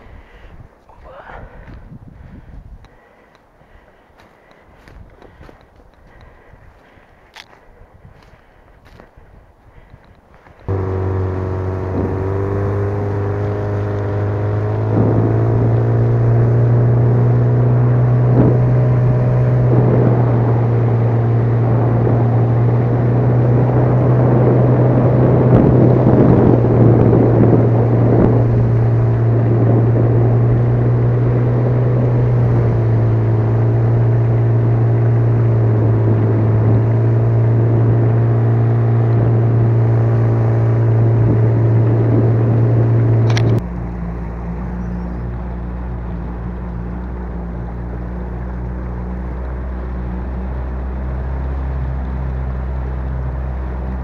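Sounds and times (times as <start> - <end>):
outboard motor running: 1.1 - 9.0, 9.7 - 54.0.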